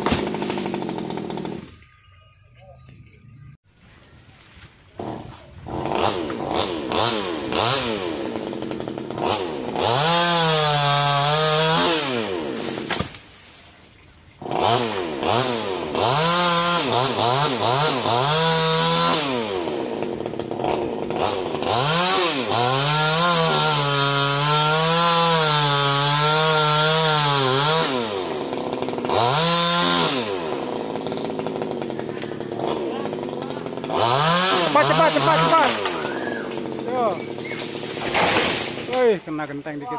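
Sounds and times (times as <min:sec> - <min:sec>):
chainsaw revving and idling: 0:00.0 - 0:01.8, 0:04.9 - 0:13.2, 0:14.4 - 0:39.9.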